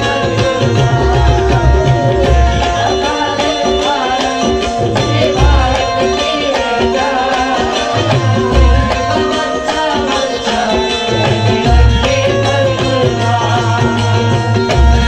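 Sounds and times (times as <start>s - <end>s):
hand drums beating: 0.0s - 15.0s
harmonium melody: 0.0s - 15.0s.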